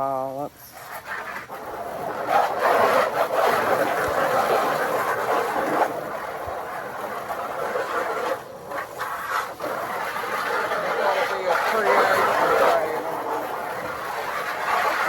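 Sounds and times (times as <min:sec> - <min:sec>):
steady rushing noise: 0:00.7 - 0:15.0.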